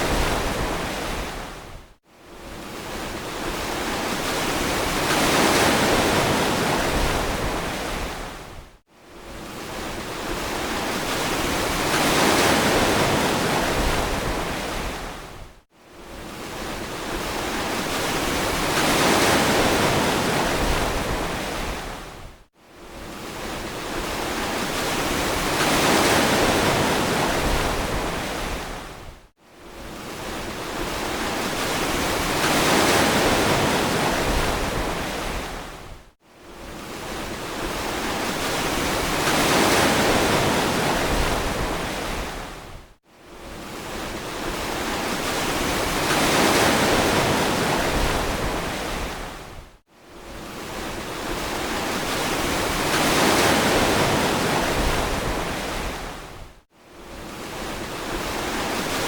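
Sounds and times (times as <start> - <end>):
ocean waves washing onto beach: 0.0 - 8.6, 9.2 - 42.8, 43.4 - 49.6, 50.2 - 59.0.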